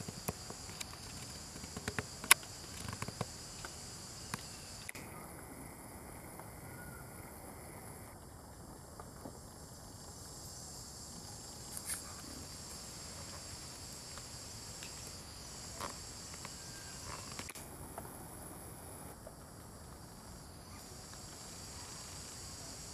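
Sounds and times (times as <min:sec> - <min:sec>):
high-pitched insect chorus: 0:00.0 - 0:22.9.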